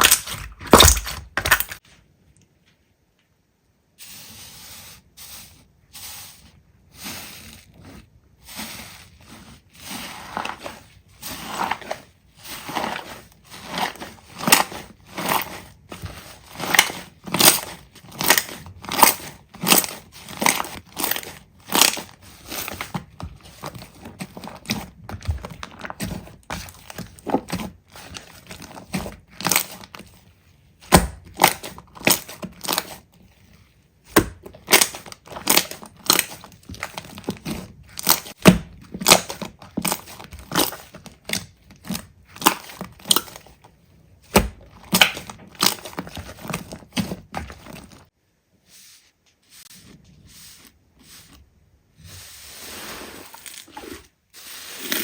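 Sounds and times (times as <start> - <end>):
slime squelching: 0.0 - 1.9, 4.0 - 48.1, 48.7 - 55.0.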